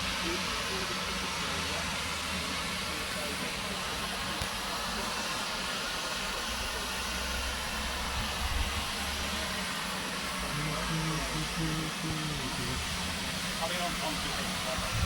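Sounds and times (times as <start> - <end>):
steam train hissing: 0.0 - 15.0
train low rumble: 0.0 - 15.0.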